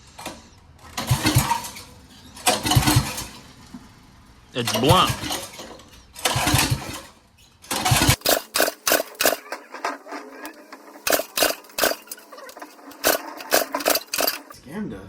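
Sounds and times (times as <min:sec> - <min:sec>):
sharp clacks and rattles: 0:00.0 - 0:14.6
small engine cranked by pull starter: 0:00.0 - 0:14.6.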